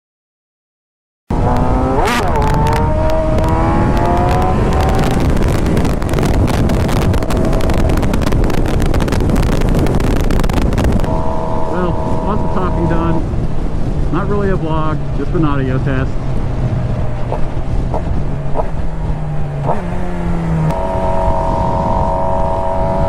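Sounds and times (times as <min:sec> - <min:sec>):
motorcycle engine accelerating: 0:01.3 - 0:13.8, 0:16.1 - 0:23.0
wind rush on microphone: 0:01.3 - 0:23.0.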